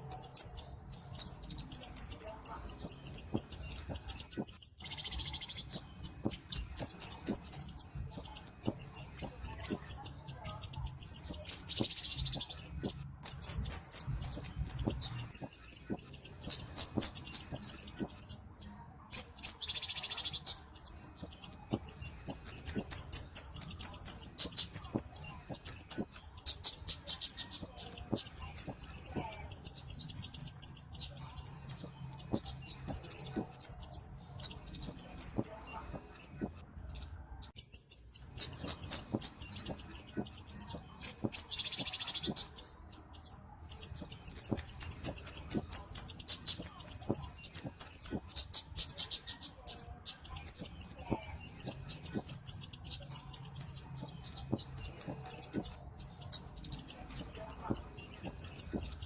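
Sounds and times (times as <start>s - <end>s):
bird high-pitched ticking song: 0.0s - 59.0s.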